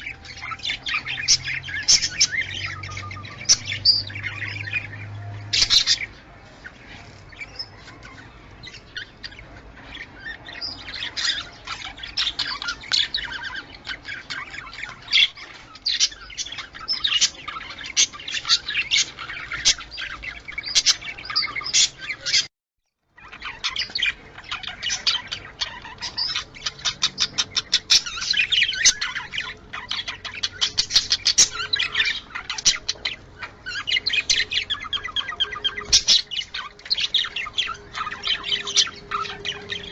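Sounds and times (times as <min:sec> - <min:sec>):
budgerigars chattering: 0:00.0 - 0:22.5, 0:23.2 - 0:39.9.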